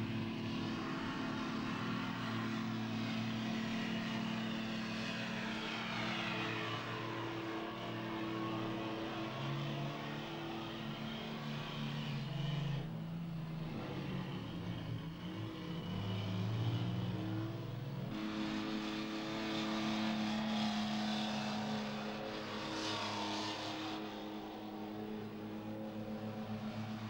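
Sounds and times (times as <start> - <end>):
heavy truck engine running: 0.0 - 27.0.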